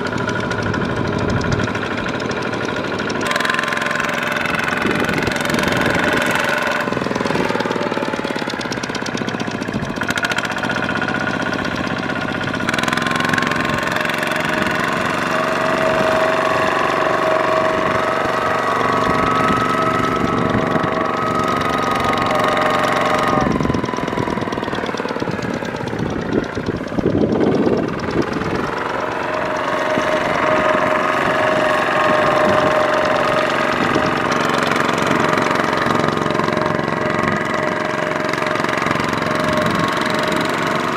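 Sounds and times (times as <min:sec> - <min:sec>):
diesel engine running under load: 0:00.0 - 0:40.9
wheels churning through mud: 0:00.0 - 0:40.9.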